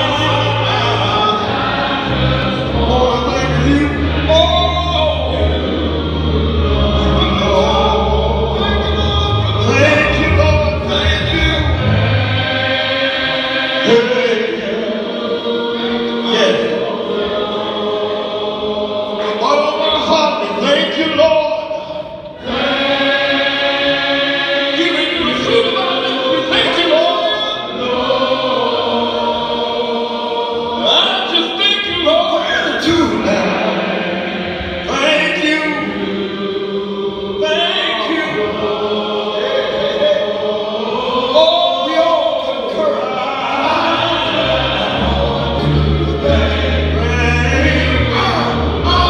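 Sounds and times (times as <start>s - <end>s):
men's choir singing gospel: 0.0s - 49.0s.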